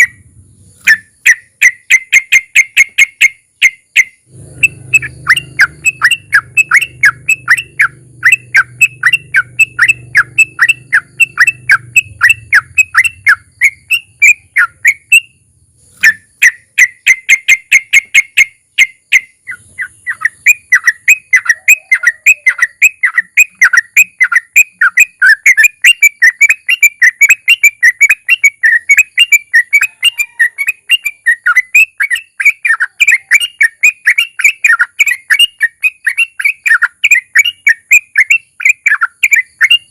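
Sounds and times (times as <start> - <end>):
bird singing rapid whistled notes: 0.0 - 39.9.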